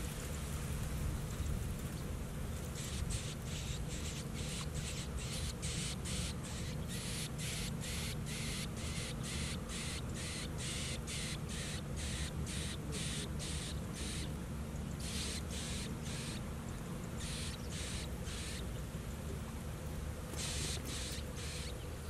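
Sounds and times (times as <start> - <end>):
nestlings rasping begging calls: 2.7 - 18.8, 20.3 - 22.0.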